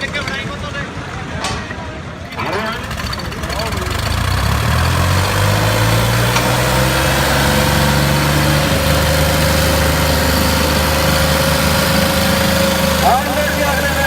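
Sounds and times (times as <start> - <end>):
tractor diesel engines droning: 0.0 - 14.0.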